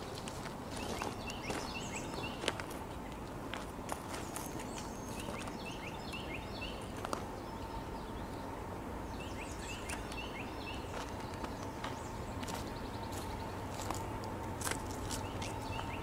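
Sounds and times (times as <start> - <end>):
faint hum: 0.0 - 16.0
songbird chirping: 0.0 - 16.0.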